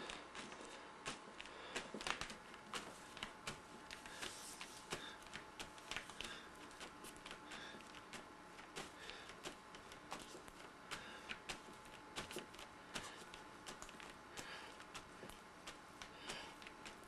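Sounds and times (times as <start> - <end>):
faint steady hum: 0.0 - 17.0
fingertips tapping wet paint: 0.0 - 17.0.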